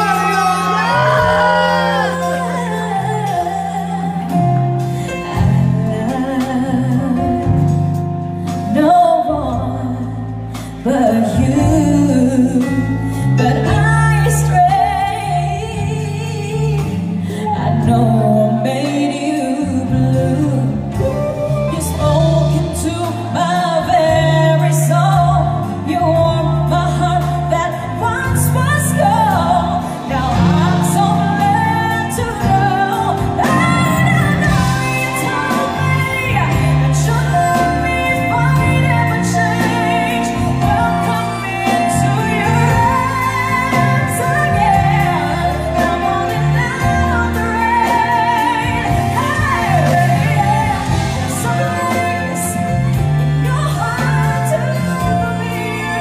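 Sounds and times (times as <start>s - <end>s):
band playing: 0.0s - 56.0s
woman singing: 0.0s - 56.0s.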